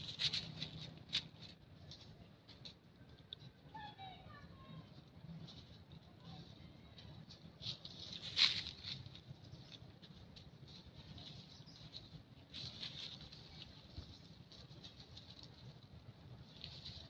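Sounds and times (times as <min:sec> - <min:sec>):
faint rustling of leaves: 0:00.0 - 0:17.0.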